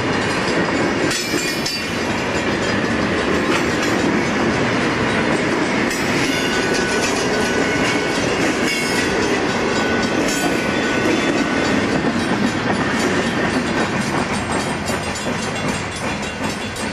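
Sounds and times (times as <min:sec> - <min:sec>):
freight cars rumbling and rattling: 0:00.0 - 0:16.9
wheels clicking over rail joints: 0:00.0 - 0:16.9.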